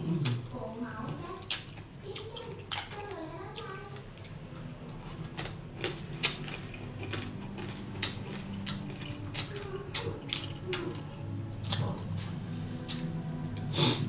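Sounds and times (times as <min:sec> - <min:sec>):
person chewing with smacks and crunches: 0:00.0 - 0:14.0
steady low hum: 0:00.0 - 0:14.0.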